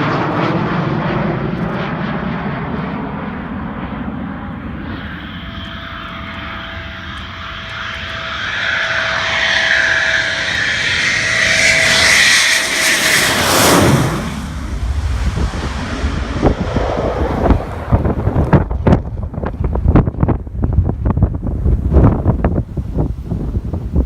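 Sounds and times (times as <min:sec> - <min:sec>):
jet flying past: 0:00.0 - 0:24.0
wind gusts on microphone: 0:04.5 - 0:24.0.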